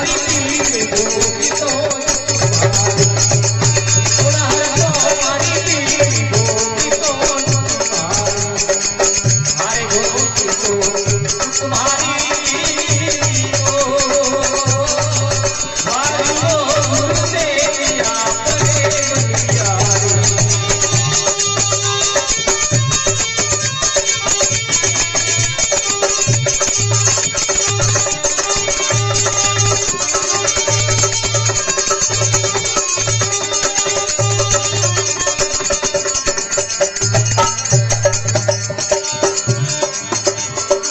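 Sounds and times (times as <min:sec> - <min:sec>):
fast rattling percussion: 0:00.0 - 0:40.9
hand drum rhythm: 0:00.0 - 0:40.9.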